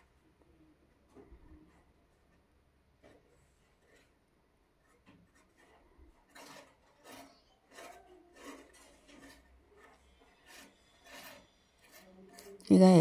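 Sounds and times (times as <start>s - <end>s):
palms rubbing dough: 0.0s - 13.0s.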